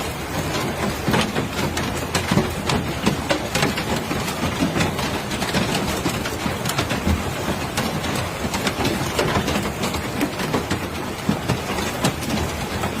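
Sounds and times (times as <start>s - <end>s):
hailstones clacking on hard surfaces: 0.0s - 13.0s.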